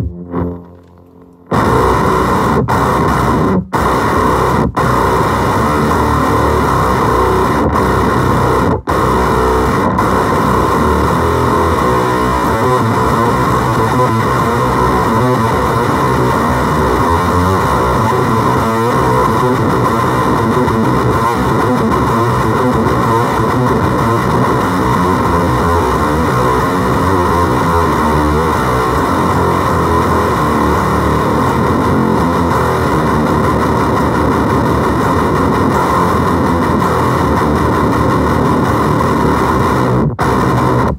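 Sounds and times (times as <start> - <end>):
fuzz distorted electric guitar: 0.0 - 40.9.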